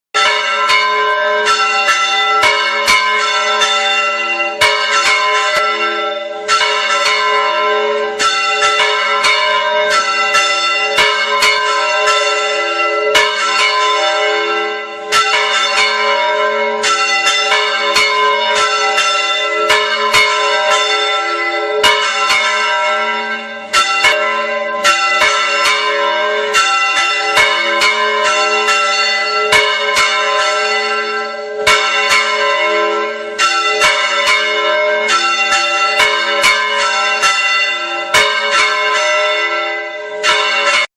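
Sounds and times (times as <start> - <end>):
church bells ringing: 0.2 - 40.9.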